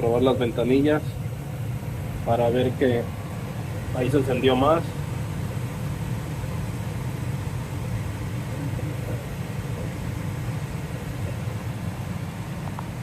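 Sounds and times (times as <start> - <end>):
furnace blower rushing air: 0.0 - 13.0.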